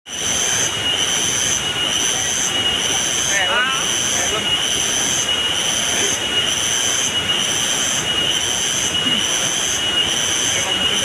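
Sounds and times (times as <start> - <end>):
high steady whine: 0.1 - 11.0
river water rushing: 0.1 - 11.0
shrill pulsing sound: 0.1 - 11.0.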